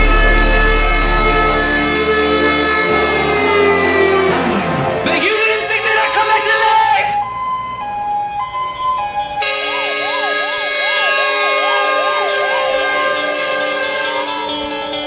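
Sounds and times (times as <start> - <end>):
fire engine siren: 0.0 - 15.0.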